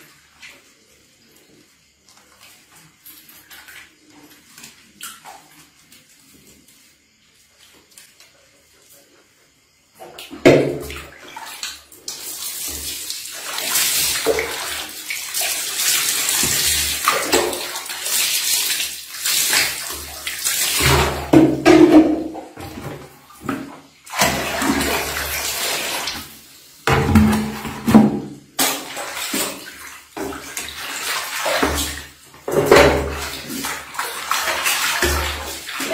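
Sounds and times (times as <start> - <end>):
water splashing into plastic basin: 0.0 - 8.9, 9.9 - 35.9.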